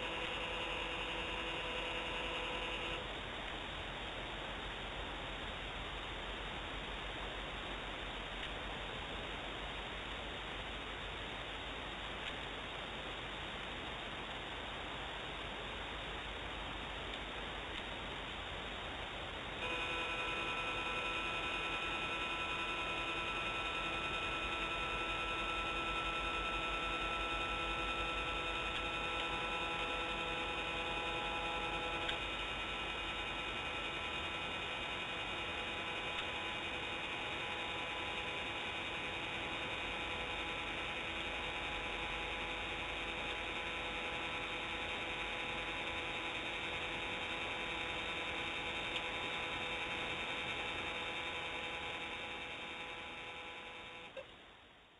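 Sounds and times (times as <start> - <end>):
electrical hum and whine: 0.0 - 54.9.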